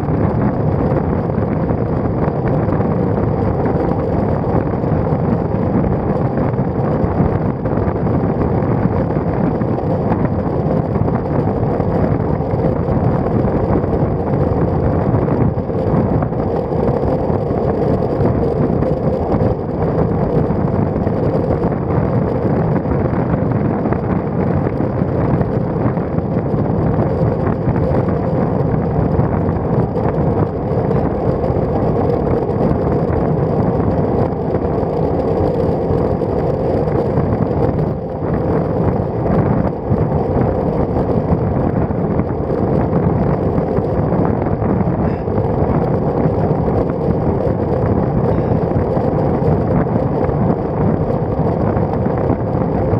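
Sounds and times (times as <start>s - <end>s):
bicycle rolling noise: 0.0s - 52.9s
wind rush: 0.0s - 52.9s.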